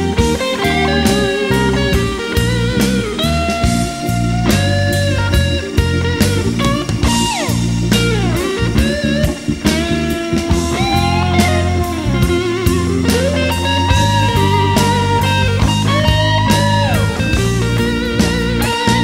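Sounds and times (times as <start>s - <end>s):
blues-rock music: 0.0s - 19.0s
electric guitar lead: 0.0s - 19.0s.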